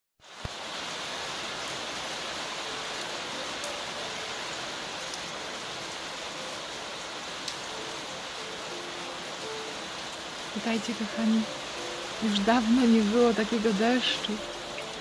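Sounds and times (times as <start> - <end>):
steady rain: 0.2 - 15.0.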